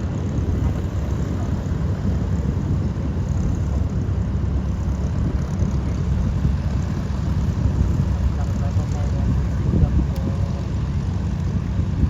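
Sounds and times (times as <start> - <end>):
propeller aircraft engines rumbling: 0.0 - 12.0.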